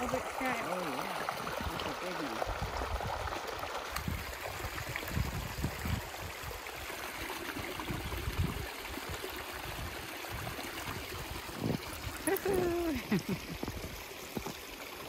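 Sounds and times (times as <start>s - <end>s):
stream rushing down waterfall: 0.0s - 15.0s.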